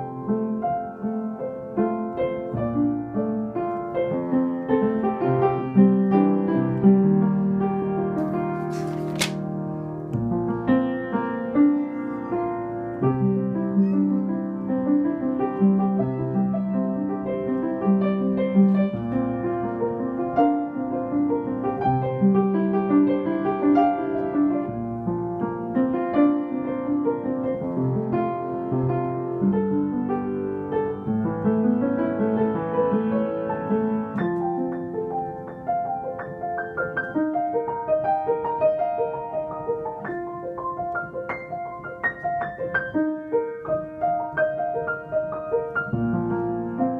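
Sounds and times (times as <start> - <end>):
acoustic piano playing: 0.0 - 46.9.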